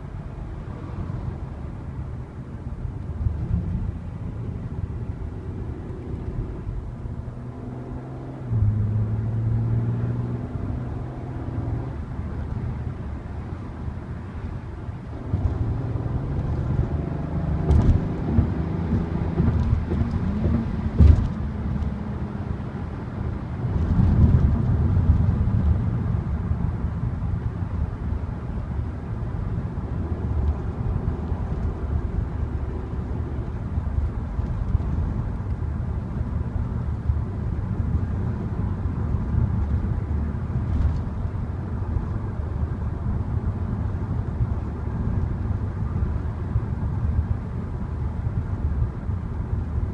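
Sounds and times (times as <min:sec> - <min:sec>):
car engine accelerating: 0:00.0 - 0:49.9
road rumble: 0:00.0 - 0:49.9.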